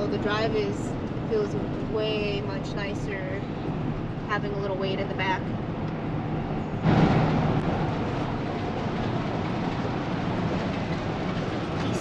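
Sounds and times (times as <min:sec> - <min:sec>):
road rumble and hiss in vehicle: 0:00.0 - 0:12.0.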